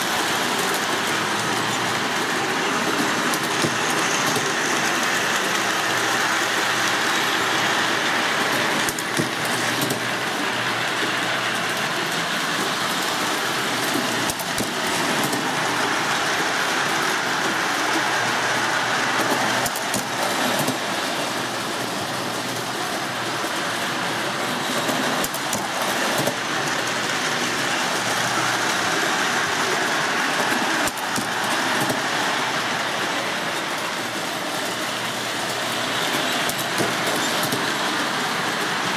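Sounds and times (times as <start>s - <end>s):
toy train motor and wheels whirring: 0.0s - 38.9s.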